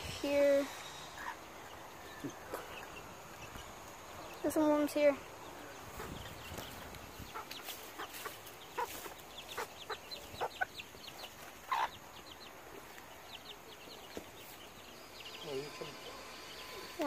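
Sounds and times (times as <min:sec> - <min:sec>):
chickens clucking: 0:00.8 - 0:17.0.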